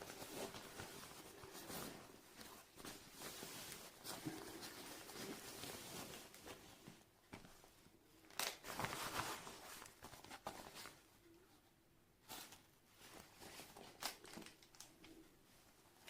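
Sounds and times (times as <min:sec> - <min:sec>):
rustling and crinkling handling noises: 0:00.0 - 0:16.0.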